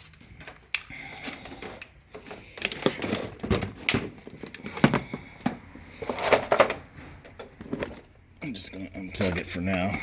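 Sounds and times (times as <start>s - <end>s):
rustling of cord handling: 0.0s - 8.2s.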